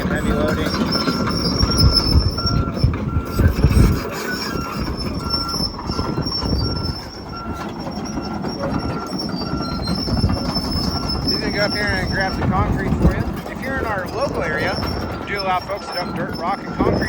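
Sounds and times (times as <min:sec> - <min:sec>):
excavator diesel engine rumble: 0:00.0 - 0:17.0
high squeal: 0:00.0 - 0:17.0
track clatter: 0:00.0 - 0:17.0
travel alarm beeps: 0:00.0 - 0:17.0.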